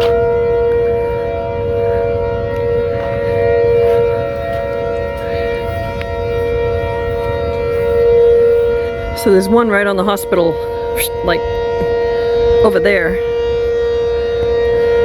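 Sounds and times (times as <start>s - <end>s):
tornado warning siren: 0.0s - 15.0s.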